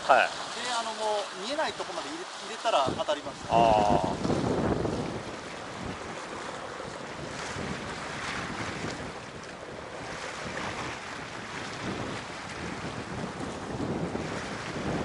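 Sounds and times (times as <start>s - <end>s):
sea surf washing against rocks: 0.0s - 15.0s
wind buffeting microphone: 0.0s - 15.0s.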